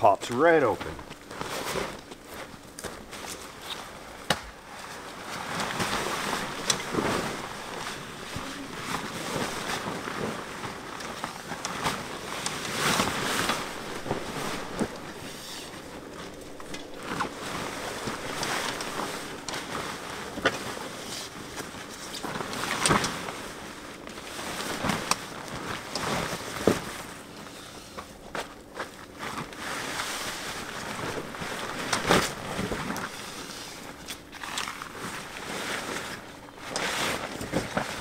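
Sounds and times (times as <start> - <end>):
fabric rustling: 1.0 - 38.0.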